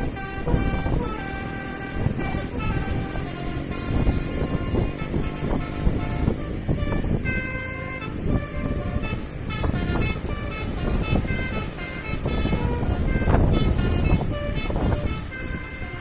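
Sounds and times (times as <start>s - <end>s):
heavy low thumping: 0.0s - 16.0s
multi-tone horn playing a tune: 0.0s - 16.0s.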